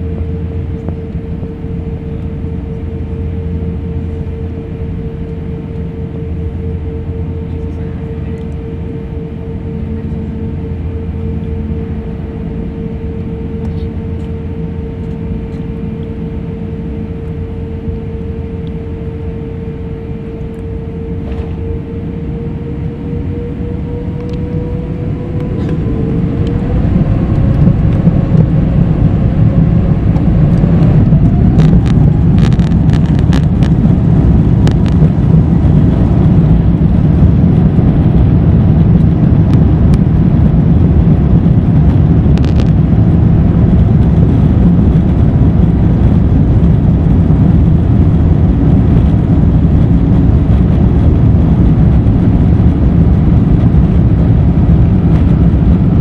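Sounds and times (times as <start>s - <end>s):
jet engines rumbling: 0.0s - 56.0s
rising engine whine: 0.0s - 56.0s.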